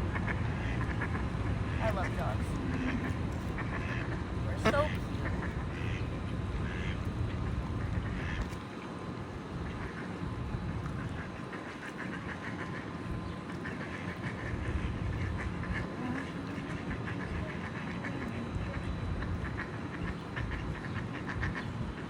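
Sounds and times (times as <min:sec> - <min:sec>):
ducks quacking: 0:00.0 - 0:08.7, 0:09.5 - 0:22.0
low steady rumble: 0:00.0 - 0:22.0.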